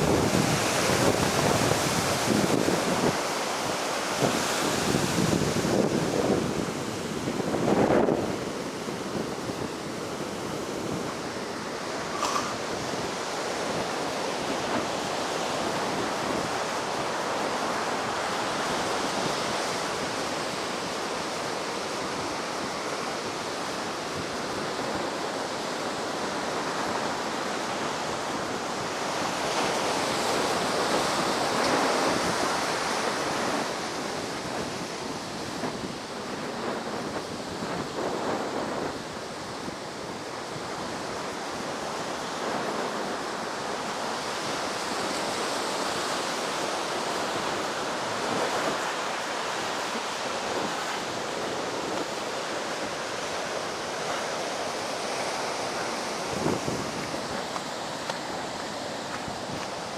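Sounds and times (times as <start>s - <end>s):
ocean surf breaking on beach: 0.0s - 59.9s
wind buffeting microphone: 0.0s - 59.9s.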